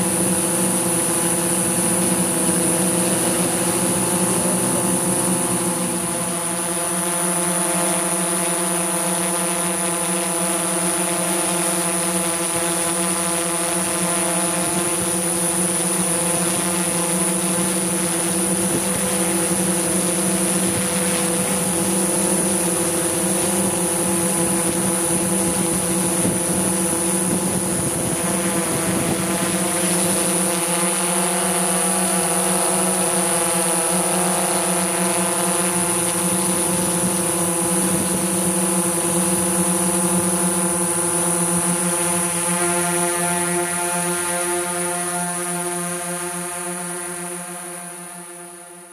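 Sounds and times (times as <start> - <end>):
drone rotors humming: 0.0 - 48.9.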